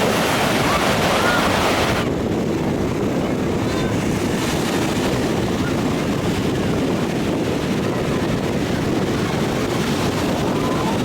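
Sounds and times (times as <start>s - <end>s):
ocean surf washing in: 0.0s - 11.0s
wind rushing over microphone: 0.0s - 11.0s.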